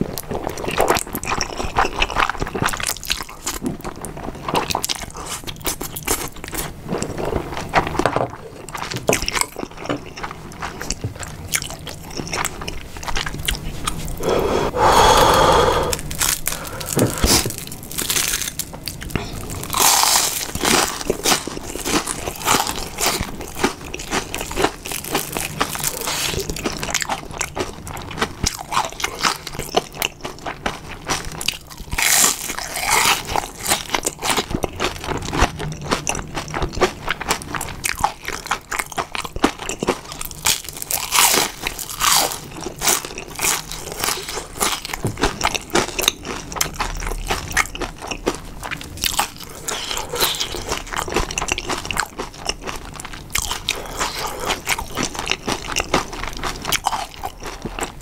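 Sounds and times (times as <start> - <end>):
crunching fried shrimp: 0.0 - 58.0.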